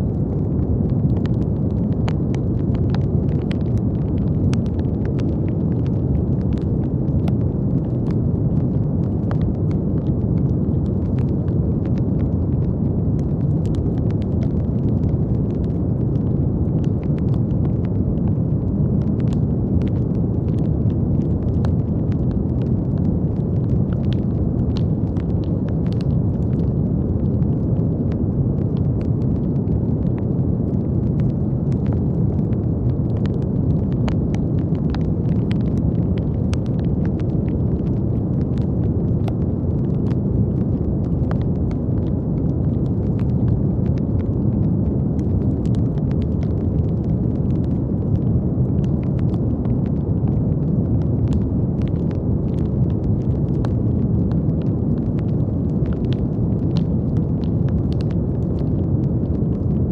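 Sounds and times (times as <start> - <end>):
brown noise: 0.0 - 59.9
faint crackling clicks: 0.2 - 59.8.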